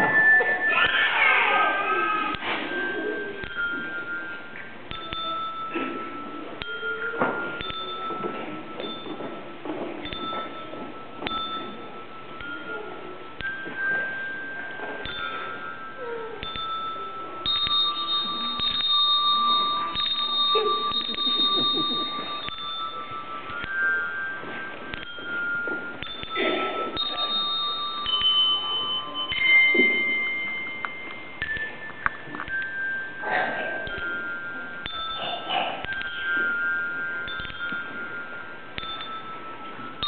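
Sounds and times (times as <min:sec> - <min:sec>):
handbell choir ringing a tune: 0:00.0 - 0:40.0.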